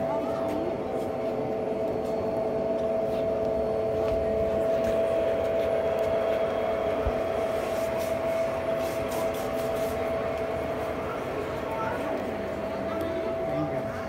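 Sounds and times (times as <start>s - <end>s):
model trains humming: 0.0s - 14.0s.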